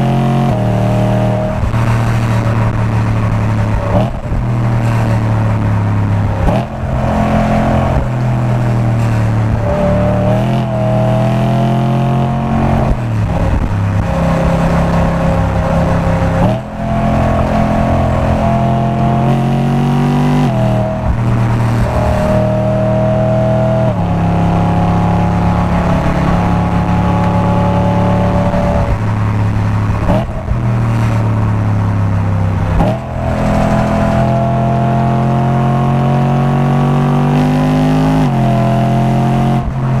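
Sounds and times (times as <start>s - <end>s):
car engine revving through gears: 0.0s - 40.0s.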